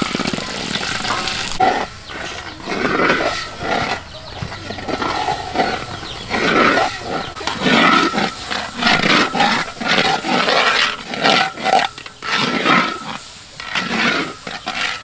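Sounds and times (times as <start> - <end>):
eggs sizzling: 0.0 - 15.0
metal spatula scraping wok: 0.0 - 15.0.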